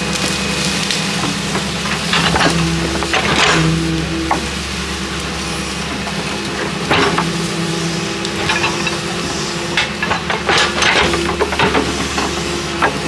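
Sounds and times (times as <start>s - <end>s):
excavator engine drone: 0.0s - 13.0s
hydraulic whine: 0.0s - 13.0s
bucket scraping earth and stones: 1.3s - 13.0s.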